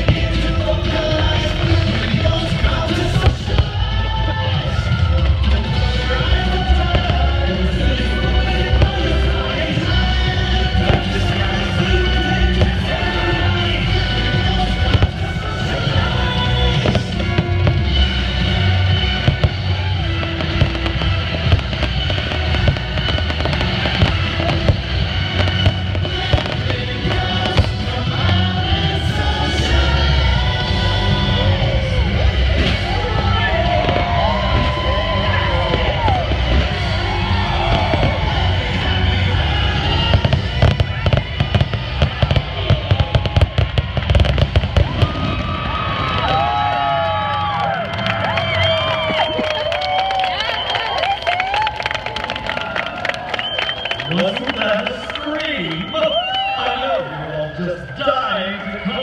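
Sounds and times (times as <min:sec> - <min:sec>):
fireworks bangs and crackles: 0:00.0 - 0:57.2
loud show music: 0:00.0 - 0:59.0.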